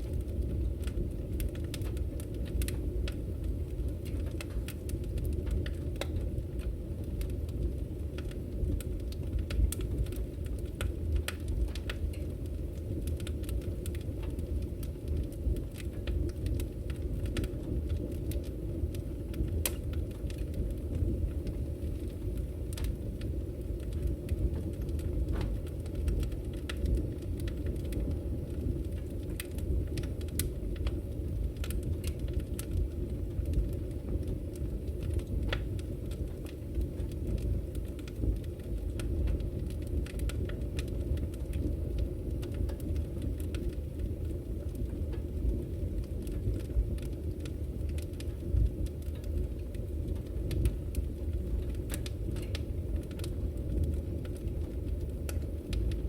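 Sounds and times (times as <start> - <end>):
fire rumbling: 0.0 - 56.0
firewood crackling and popping: 0.0 - 56.0.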